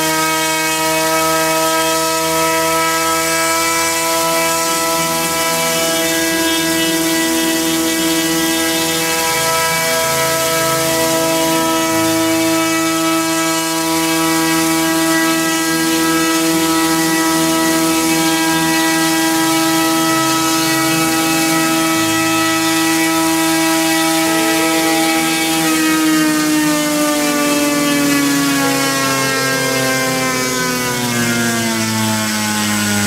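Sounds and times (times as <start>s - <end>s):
electric motor whine: 0.0s - 33.0s.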